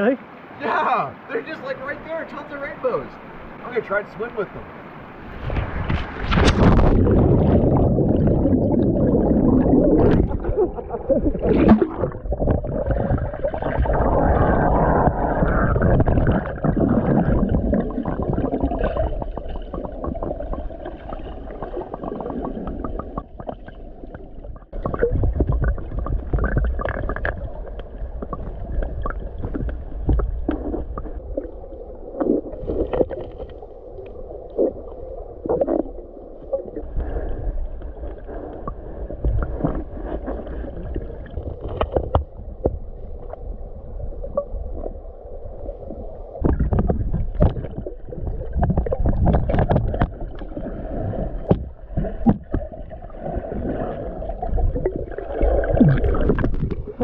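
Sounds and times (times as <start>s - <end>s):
muffled underwater river rush: 0.0s - 57.0s
gurgling bubbles: 5.4s - 57.0s.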